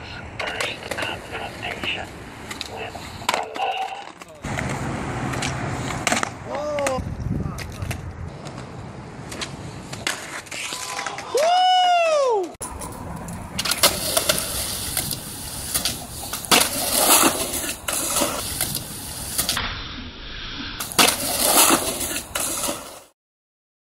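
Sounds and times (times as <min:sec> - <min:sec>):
skateboard wheels rolling on concrete: 0:00.0 - 0:23.1
skateboard clacking on ground: 0:00.3 - 0:11.5, 0:12.4 - 0:19.6, 0:20.8 - 0:23.1.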